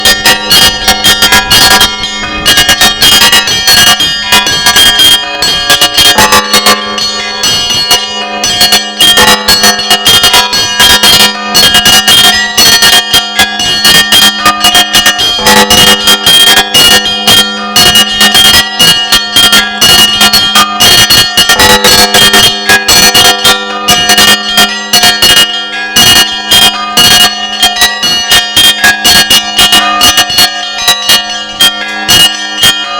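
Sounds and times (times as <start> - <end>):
church bells pealing: 0.0 - 32.9
low bell humming: 0.0 - 32.9.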